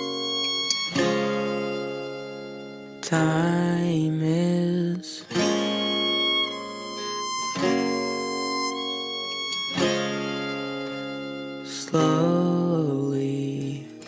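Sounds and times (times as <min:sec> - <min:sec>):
instrumental guitar-like chords: 0:00.0 - 0:14.0.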